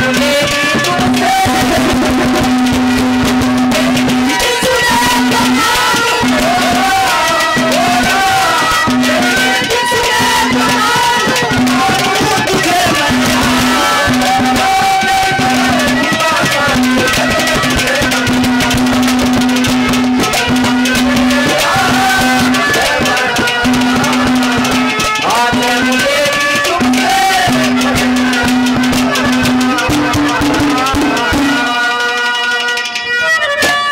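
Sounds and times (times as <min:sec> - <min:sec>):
dholak drums: 0:00.0 - 0:33.9
harmonium melody: 0:00.0 - 0:33.9
jingling hand percussion: 0:00.0 - 0:33.9.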